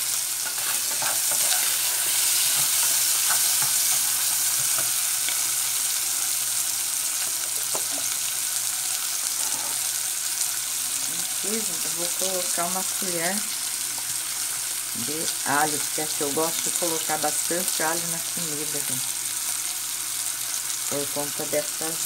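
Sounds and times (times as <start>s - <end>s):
meat sizzling in a pot: 0.0s - 22.0s.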